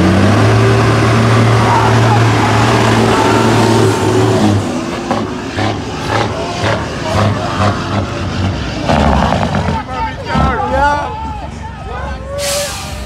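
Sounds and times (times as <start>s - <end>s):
truck diesel engine revving: 0.0s - 10.7s.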